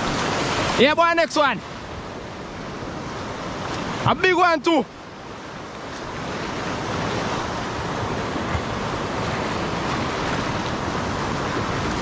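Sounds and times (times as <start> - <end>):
waves breaking on shore: 0.0 - 12.0.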